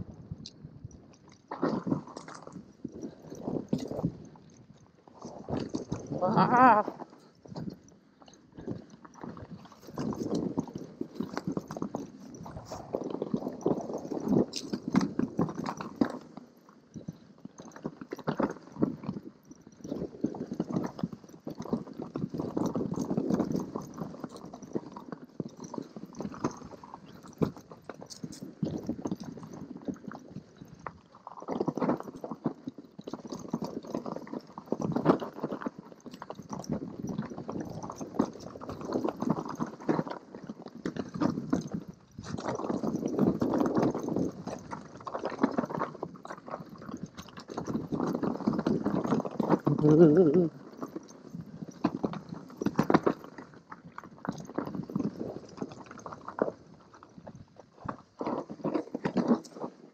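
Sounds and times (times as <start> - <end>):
bike tyres crunching over snow: 1.0 - 59.9.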